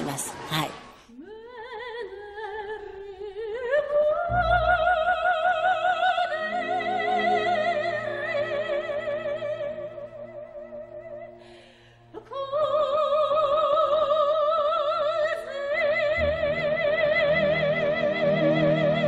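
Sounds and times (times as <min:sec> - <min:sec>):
operatic soprano singing: 0:00.7 - 0:11.4, 0:12.1 - 0:19.0
soft sustained accompaniment: 0:01.4 - 0:19.0.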